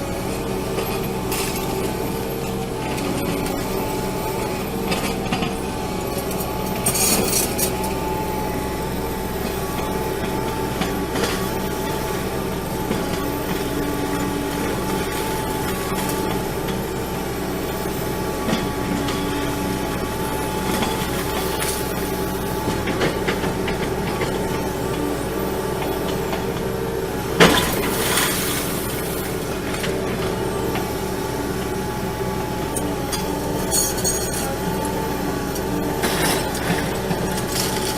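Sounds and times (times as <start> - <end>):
heavy machine engine running: 0.0 - 37.9.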